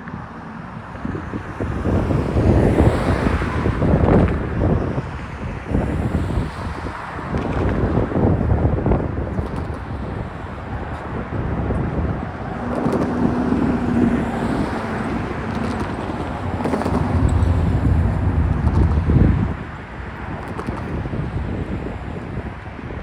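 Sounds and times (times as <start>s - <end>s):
wind buffeting microphone: 0.0s - 23.0s
freight cars rumbling on rails: 0.4s - 22.8s.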